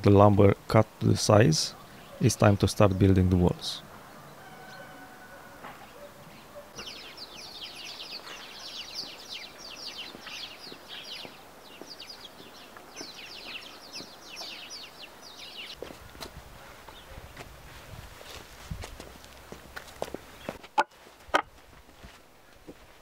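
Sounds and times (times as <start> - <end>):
small birds chirping: 0.0 - 17.5, 19.4 - 20.8.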